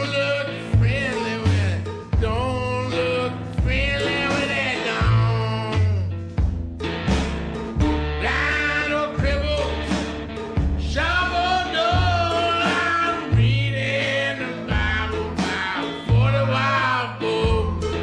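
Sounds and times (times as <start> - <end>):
song with singing and bass: 0.0 - 18.0.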